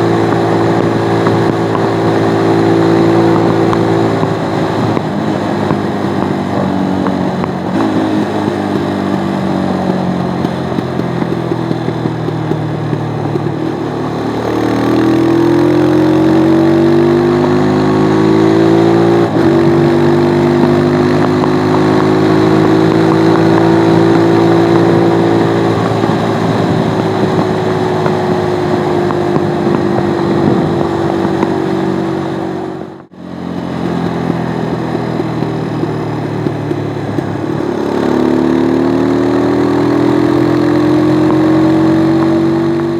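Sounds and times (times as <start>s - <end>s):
motorcycle engine and exhaust: 0.0s - 42.9s.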